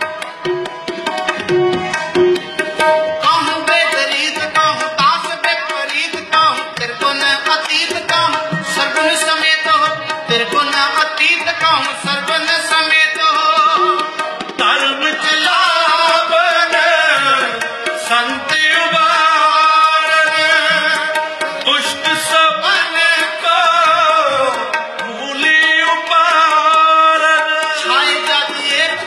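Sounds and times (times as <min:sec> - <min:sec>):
harmonium: 0:00.0 - 0:29.0
tabla drumming: 0:00.0 - 0:29.0
man singing devotional hymn: 0:03.2 - 0:29.0.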